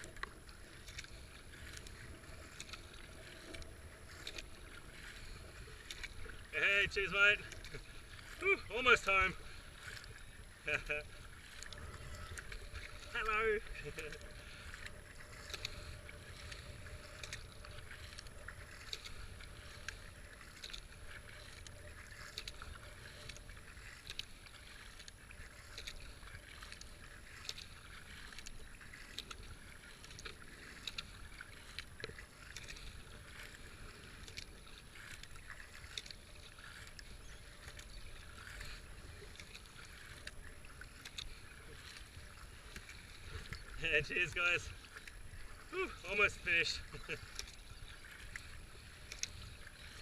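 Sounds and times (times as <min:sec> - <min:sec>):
paddle splashing in water: 0:00.0 - 0:50.0
water washing along hull: 0:00.0 - 0:50.0.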